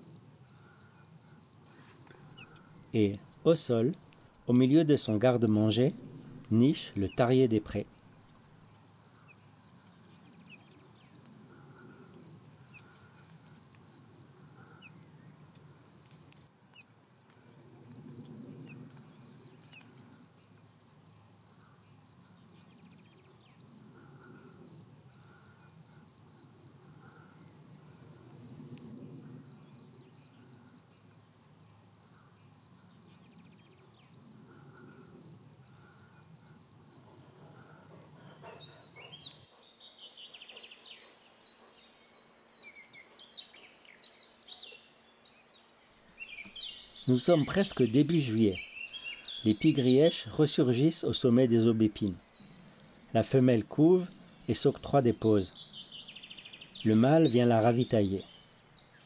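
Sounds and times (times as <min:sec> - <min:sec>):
insect chirring: 0:00.0 - 0:59.0.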